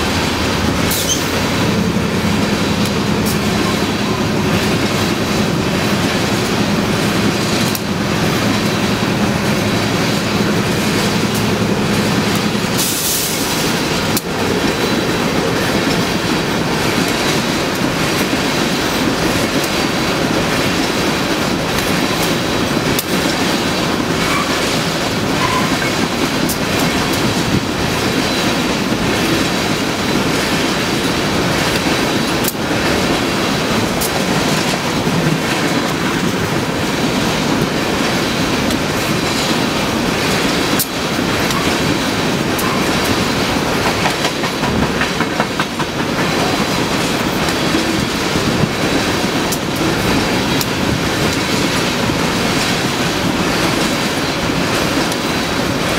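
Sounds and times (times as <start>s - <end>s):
clickety-clack over rail joints: 0.0s - 55.9s
train wheels rumbling on rail: 0.0s - 55.9s.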